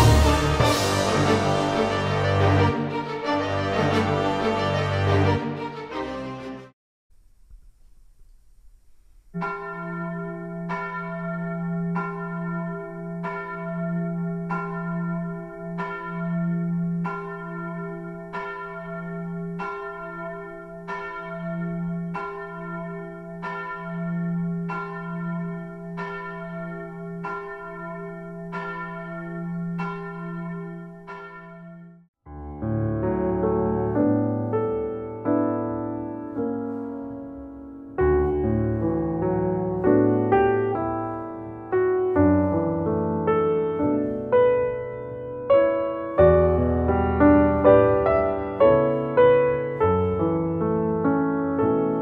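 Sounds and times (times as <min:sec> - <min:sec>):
church bell tolling: 0:00.0 - 0:05.6, 0:09.4 - 0:32.1, 0:33.5 - 0:52.0.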